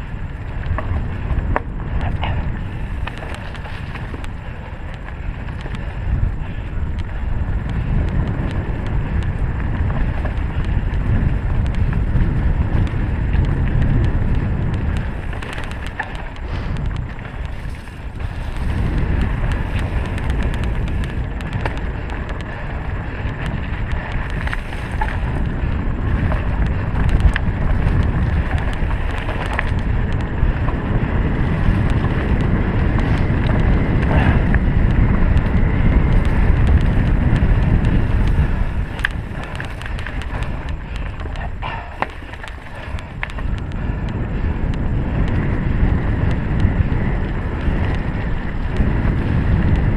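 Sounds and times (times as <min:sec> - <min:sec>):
bike clicks and rattles: 0:00.0 - 0:49.9
wind buffeting microphone: 0:00.0 - 0:49.9.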